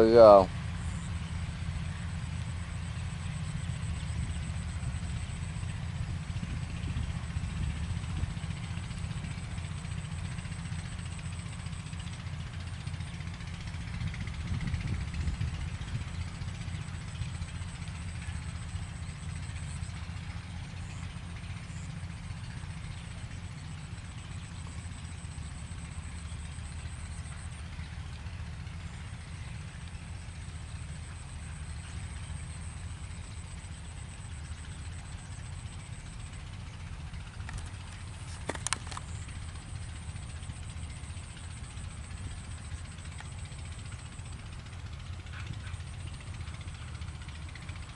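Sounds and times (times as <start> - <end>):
tractor engine low rumble: 0.0 - 47.9.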